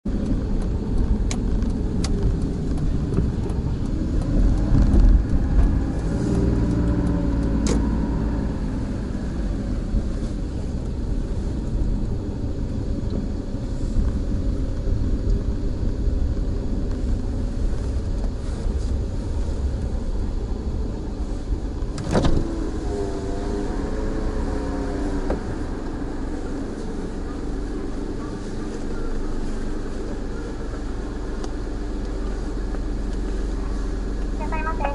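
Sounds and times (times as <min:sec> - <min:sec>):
car engine and tyre noise: 0:00.0 - 0:34.9.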